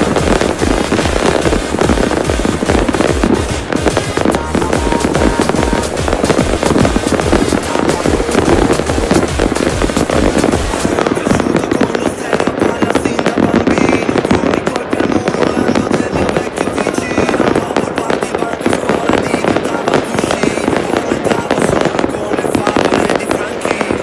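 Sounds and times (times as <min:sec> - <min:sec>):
fireworks and firecrackers crackling: 0:00.0 - 0:24.0.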